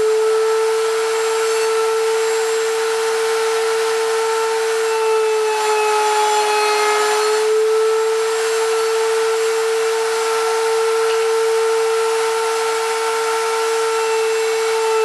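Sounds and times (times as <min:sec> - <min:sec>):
router whining cutting wood: 0:00.0 - 0:15.0.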